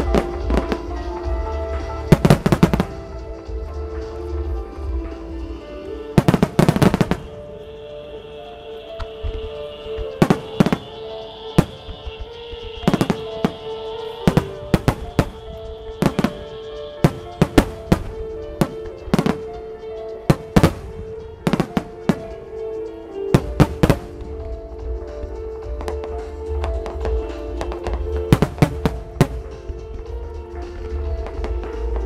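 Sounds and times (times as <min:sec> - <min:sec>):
fireworks bursting: 0:00.0 - 0:32.0
music in long notes: 0:00.0 - 0:32.0.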